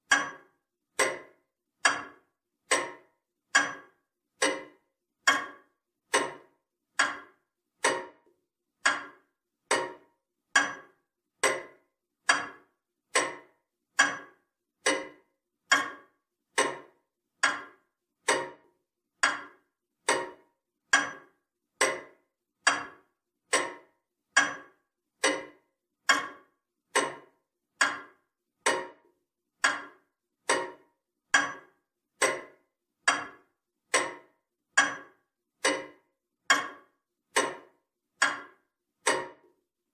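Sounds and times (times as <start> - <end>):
clock ticking: 0.0 - 39.6.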